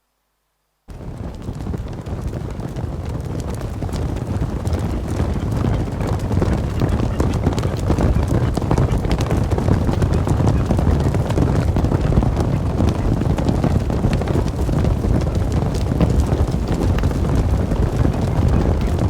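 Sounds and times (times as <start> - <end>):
hooves clattering on ground: 0.9 - 19.0.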